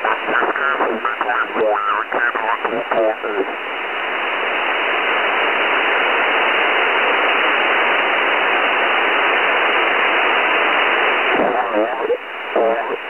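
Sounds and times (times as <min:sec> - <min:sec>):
radio receiver hiss: 0:00.0 - 0:13.0.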